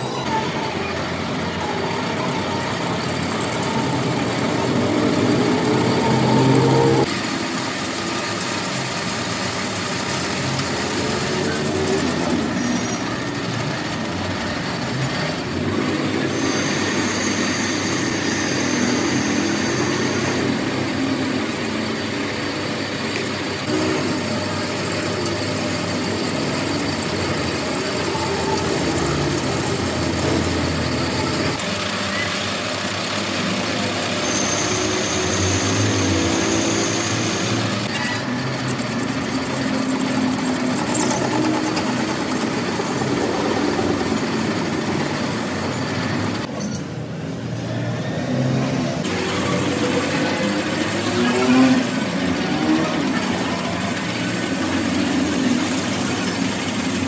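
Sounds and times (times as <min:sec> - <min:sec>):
industrial machinery running: 0:00.0 - 0:57.0.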